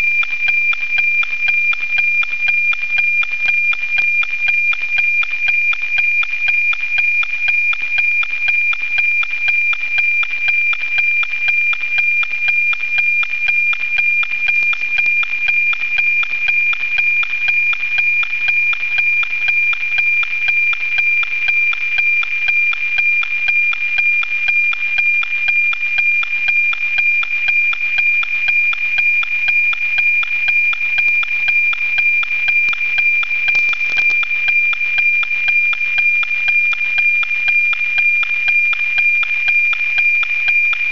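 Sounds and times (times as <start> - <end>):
regular tick-tock beat: 0.0 - 40.9.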